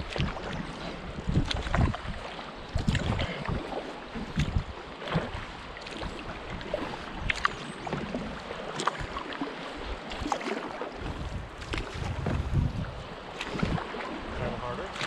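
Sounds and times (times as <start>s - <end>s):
paddle splashing in water: 0.0s - 15.0s
water washing around boat: 0.0s - 15.0s.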